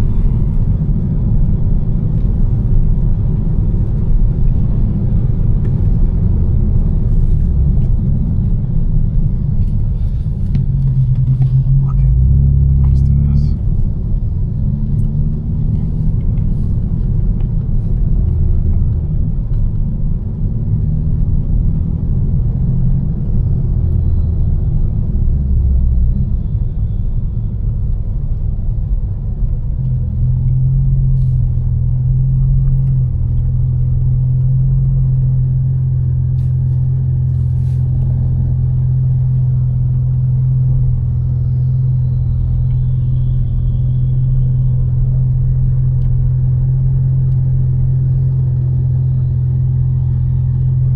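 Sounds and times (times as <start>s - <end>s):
car engine low rumble: 0.0s - 50.9s.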